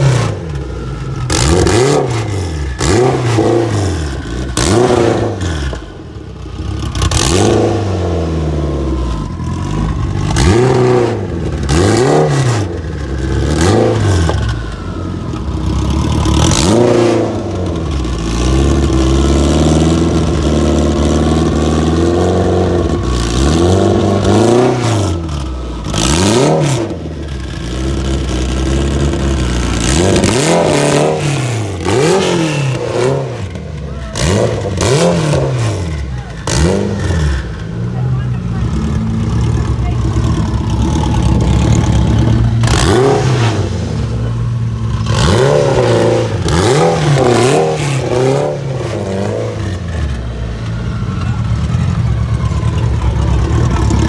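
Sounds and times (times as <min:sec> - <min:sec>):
car engines revving: 0:00.0 - 0:54.0
engines idling: 0:00.0 - 0:54.0.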